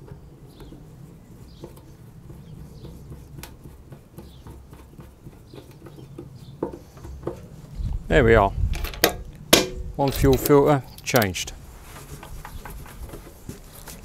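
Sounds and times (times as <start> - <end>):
distant birds calling: 0.0 - 13.8.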